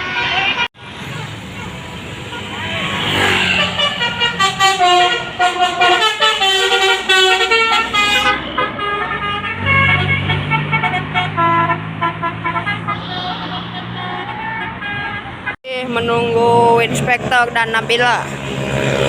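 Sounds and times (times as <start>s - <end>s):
bus melody horn: 0.0s - 15.6s
bus engine rumbling: 0.0s - 19.0s.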